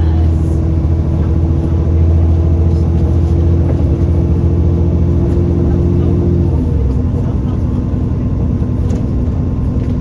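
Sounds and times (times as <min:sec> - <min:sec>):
bus diesel engine droning: 0:00.0 - 0:10.0
drivetrain whine: 0:00.0 - 0:10.0.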